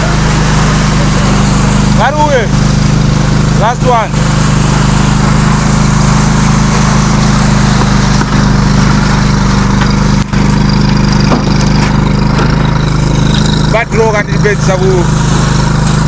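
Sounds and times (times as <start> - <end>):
concrete mixer engine running: 0.0 - 16.0.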